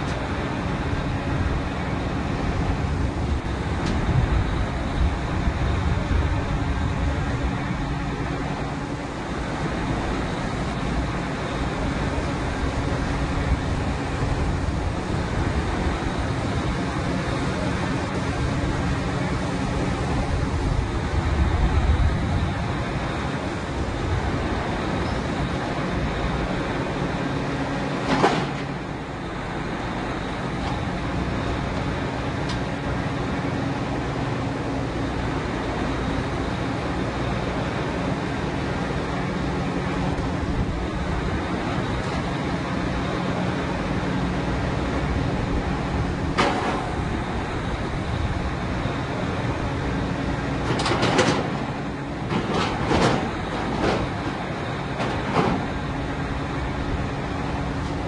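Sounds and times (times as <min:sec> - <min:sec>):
drilling rig rumbling: 0:00.0 - 0:58.0.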